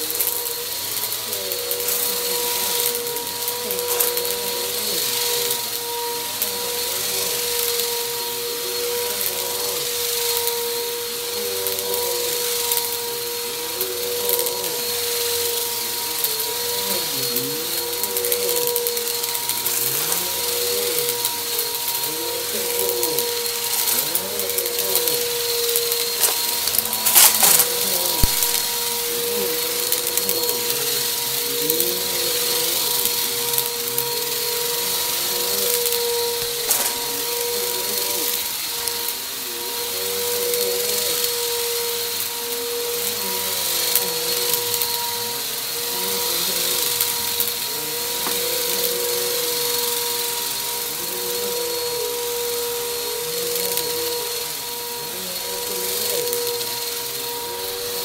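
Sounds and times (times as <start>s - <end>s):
vacuum cleaner motor humming: 0.0s - 58.0s.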